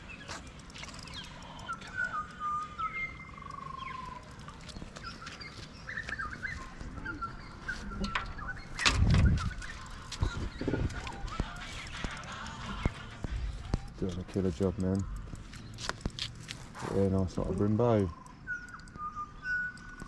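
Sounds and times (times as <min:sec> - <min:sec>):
birds chirping and whistling: 0:00.0 - 0:20.0.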